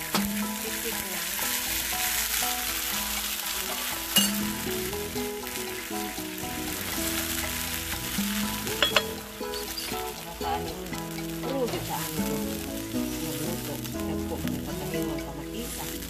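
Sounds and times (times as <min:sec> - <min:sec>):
vegetables sizzling in oil: 0:00.0 - 0:16.0
wooden spatula stirring: 0:00.0 - 0:16.0.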